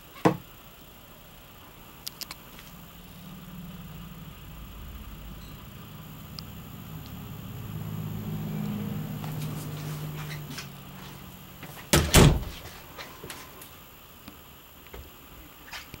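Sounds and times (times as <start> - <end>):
low steady hum: 0.0 - 15.6.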